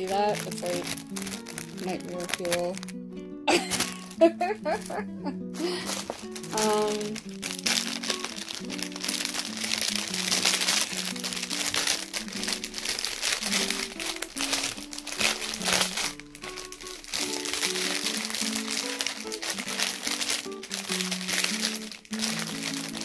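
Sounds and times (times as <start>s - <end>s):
background music melody: 0.0s - 23.0s
plastic packaging crinkling: 0.0s - 23.0s.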